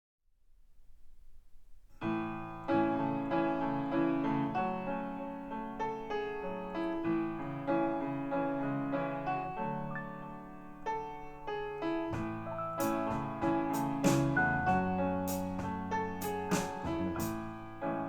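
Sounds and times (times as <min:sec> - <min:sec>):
solo piano music: 0:01.9 - 0:18.0.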